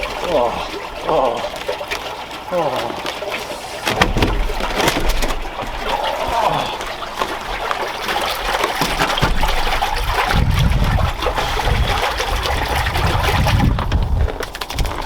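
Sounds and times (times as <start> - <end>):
water trickling and sloshing: 0.0 - 15.0.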